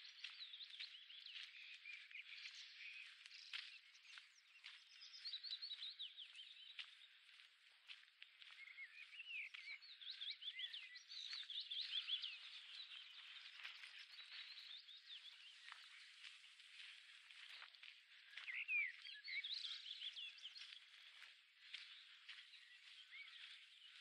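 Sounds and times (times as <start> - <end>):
birds chirping and trilling: 0.0 - 24.0.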